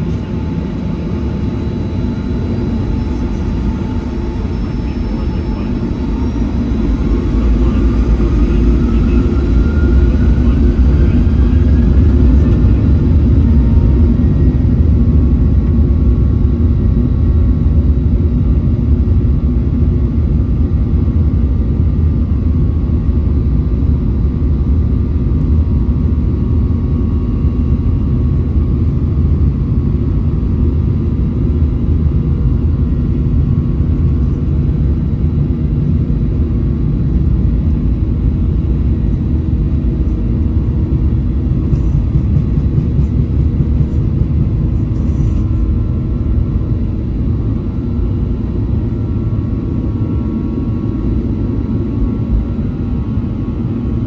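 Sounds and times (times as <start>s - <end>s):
faint steady whine: 0.0s - 54.0s
jet cabin low rumble: 0.0s - 54.0s.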